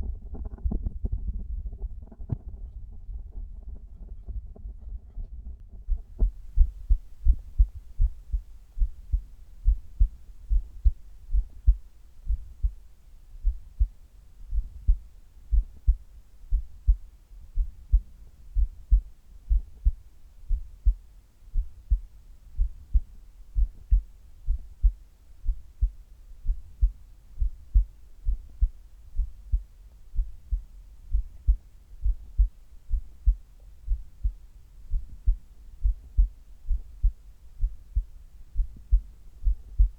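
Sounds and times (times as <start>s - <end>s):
heartbeat thumps: 5.8s - 39.9s.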